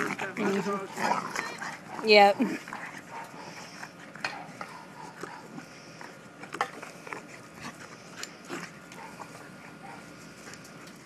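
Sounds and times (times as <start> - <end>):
puppies scuffling and snapping: 0.0 - 11.0.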